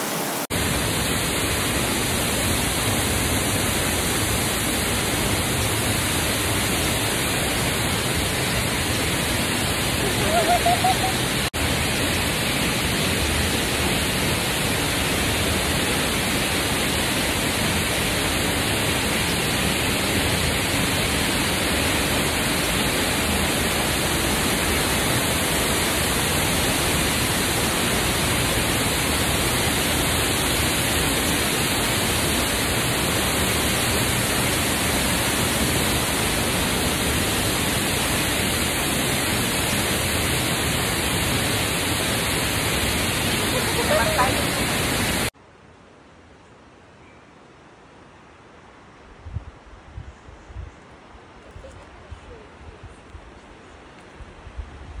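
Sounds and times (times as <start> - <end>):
waterfall rushing: 0.0 - 45.4.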